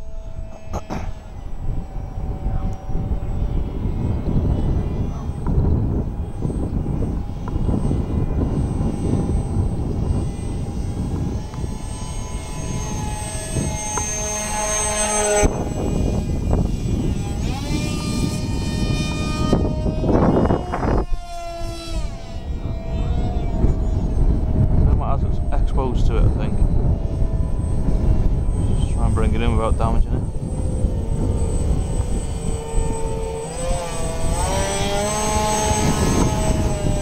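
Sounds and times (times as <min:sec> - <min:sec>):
model jet motor whining: 0:00.0 - 0:37.0
wind buffeting microphone: 0:00.0 - 0:37.0.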